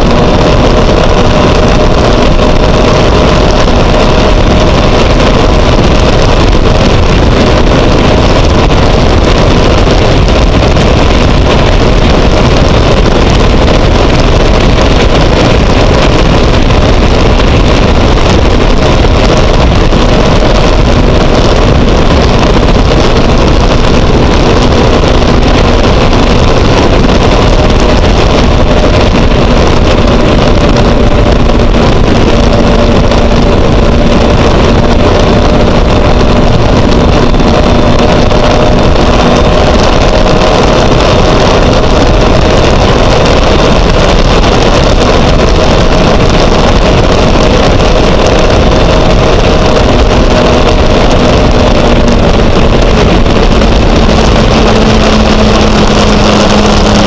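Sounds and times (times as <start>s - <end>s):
high turbine whine: 0.0s - 57.0s
wind and water rush: 0.0s - 57.0s.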